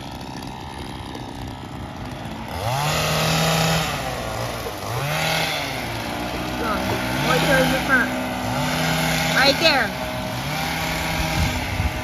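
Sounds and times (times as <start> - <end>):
gas trimmer engine revving: 0.0 - 12.0.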